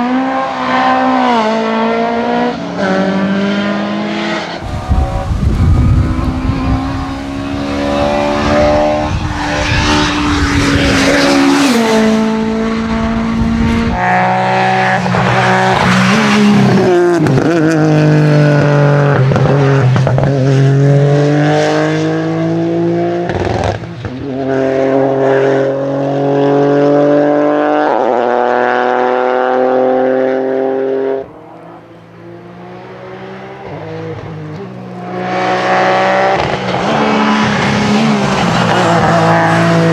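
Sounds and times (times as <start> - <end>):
distant car engine: 0.0 - 39.9
rally car engines revving: 0.0 - 39.9.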